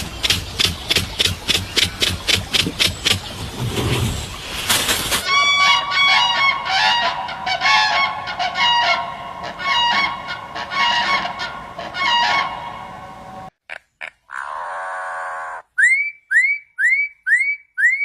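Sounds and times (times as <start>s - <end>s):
bird calling: 0.0s - 4.5s, 5.2s - 18.0s.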